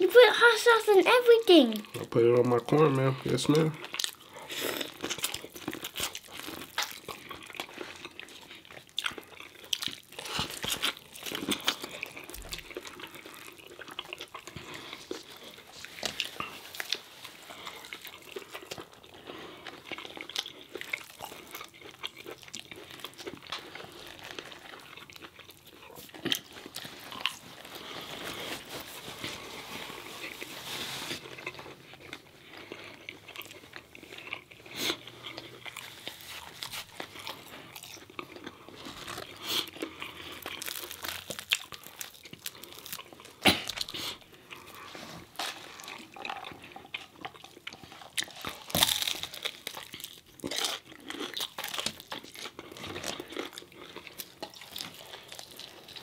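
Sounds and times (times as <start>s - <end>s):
crunching and chewing fried food: 0.0s - 56.0s.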